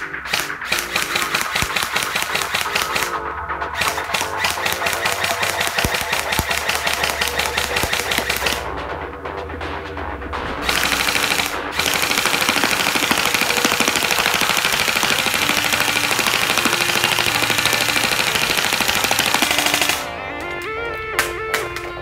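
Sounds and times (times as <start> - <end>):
airsoft gun full-auto bursts: 0.0 - 8.7, 10.6 - 20.1
background music: 0.0 - 22.0.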